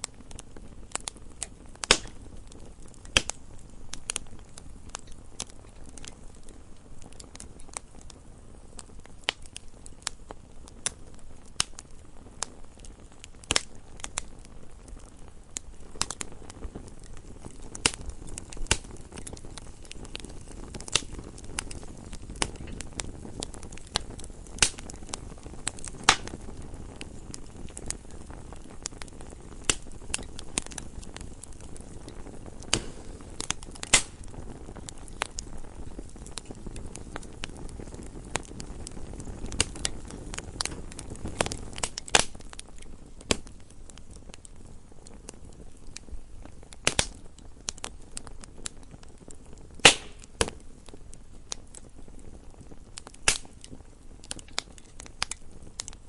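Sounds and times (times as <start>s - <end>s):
burning logs crackling and popping: 0.0s - 56.0s
low rush of flames: 0.0s - 56.0s.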